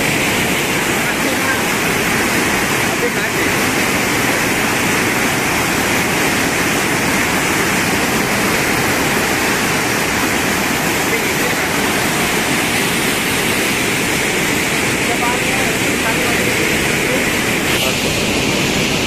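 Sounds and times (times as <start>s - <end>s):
waterfall rushing water: 0.0s - 19.0s.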